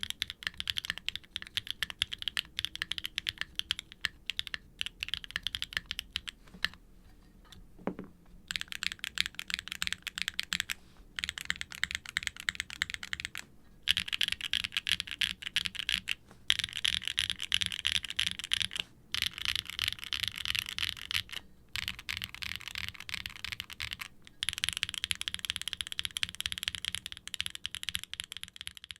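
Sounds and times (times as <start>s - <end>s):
fast typing on mechanical keyboard: 0.0s - 6.8s, 8.5s - 28.9s.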